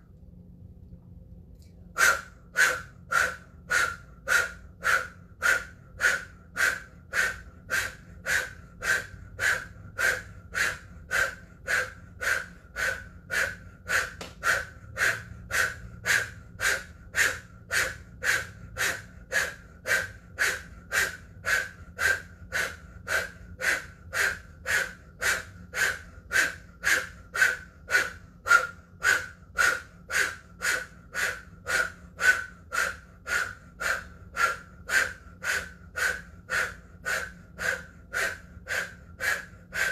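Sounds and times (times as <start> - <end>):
forceful rhythmic breathing: 1.7 - 39.9.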